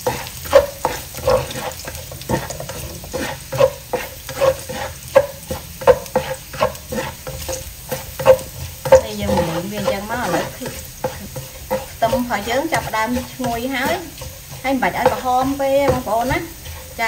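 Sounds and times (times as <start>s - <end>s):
garlic sizzling in hot oil: 0.0s - 17.0s
spatula scraping and knocking pan: 0.0s - 17.0s.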